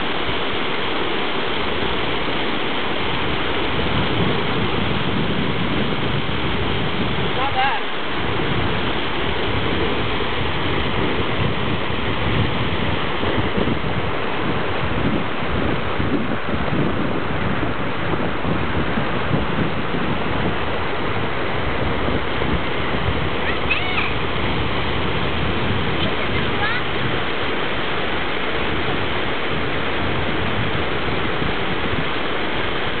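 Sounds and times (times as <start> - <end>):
stream rushing over rocks: 0.0 - 33.0
wind rumbling on microphone: 0.0 - 33.0.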